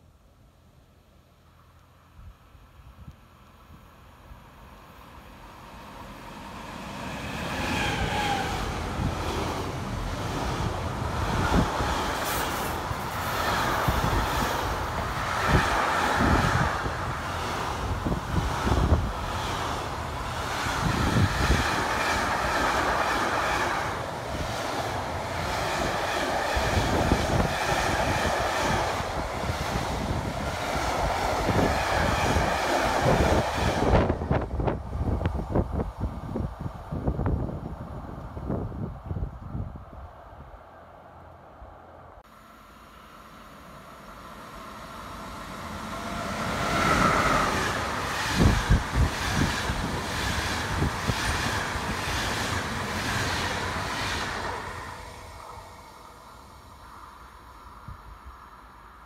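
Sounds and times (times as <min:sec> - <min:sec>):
train passing: 0:03.6 - 0:59.0.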